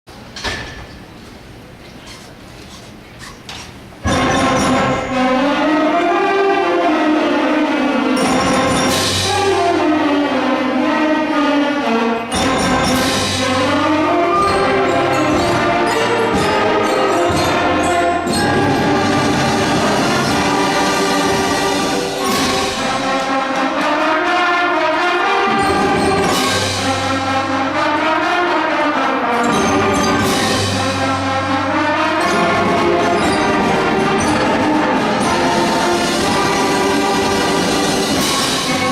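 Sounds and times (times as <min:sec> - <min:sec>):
concert band playing: 0:04.0 - 0:38.9.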